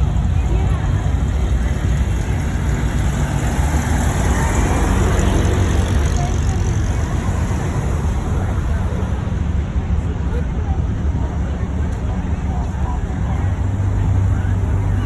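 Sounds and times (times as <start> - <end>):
car engines and road traffic: 0.0 - 15.0.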